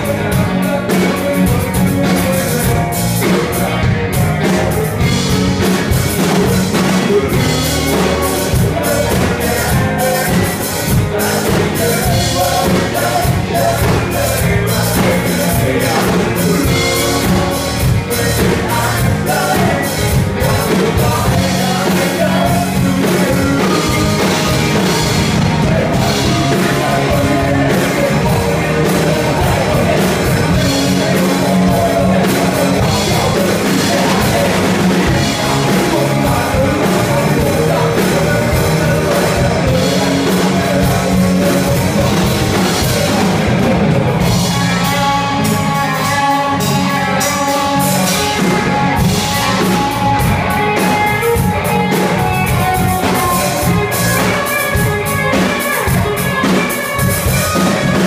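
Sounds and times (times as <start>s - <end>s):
bass guitar: 0.0s - 58.0s
drum kit: 0.0s - 58.0s
electric guitar: 0.0s - 58.0s
man singing: 0.0s - 58.0s.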